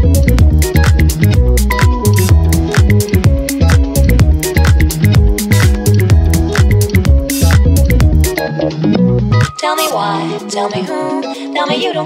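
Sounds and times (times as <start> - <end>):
upbeat electronic dance music: 0.0 - 12.0.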